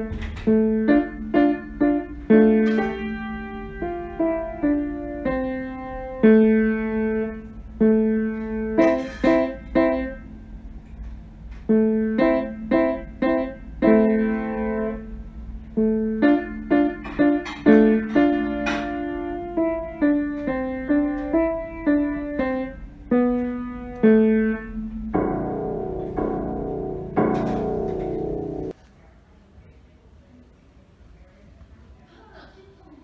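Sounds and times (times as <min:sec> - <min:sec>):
slow piano melody: 0:00.0 - 0:28.8.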